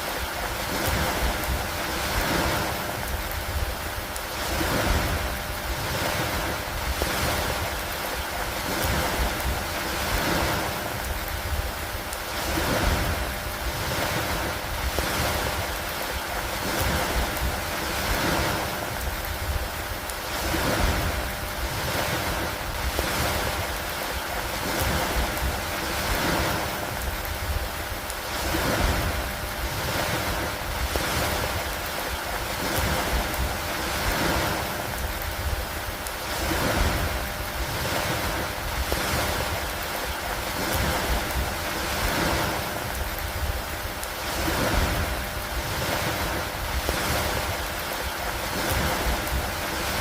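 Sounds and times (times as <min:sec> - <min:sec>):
rain: 0:00.0 - 0:50.0
water noise: 0:00.0 - 0:50.0
wind: 0:00.0 - 0:50.0.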